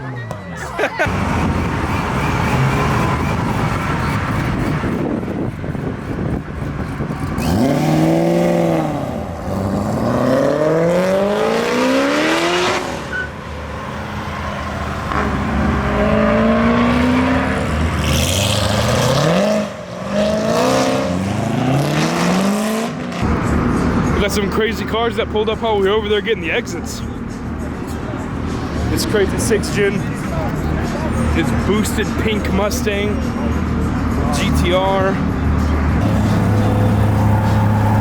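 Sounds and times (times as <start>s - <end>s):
car engines revving: 0.3s - 38.0s.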